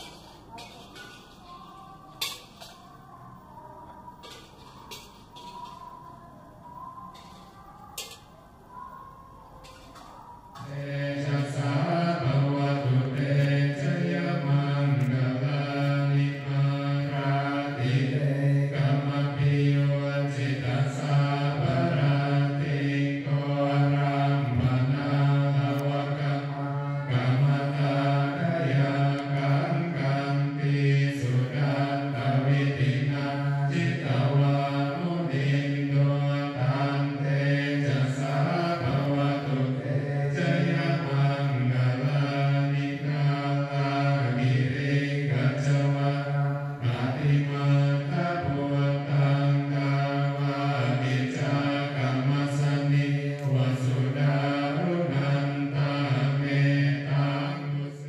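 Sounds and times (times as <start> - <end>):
voices chanting in unison: 0.0 - 58.0.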